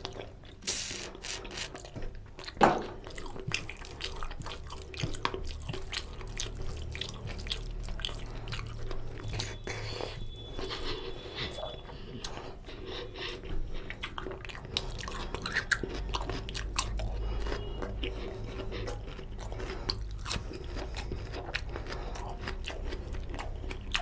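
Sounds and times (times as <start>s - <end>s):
wet eating by hand: 0.0s - 24.0s.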